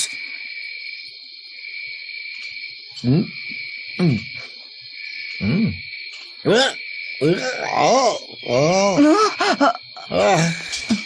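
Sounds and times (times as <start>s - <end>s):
high insect-like buzz: 0.0s - 11.0s.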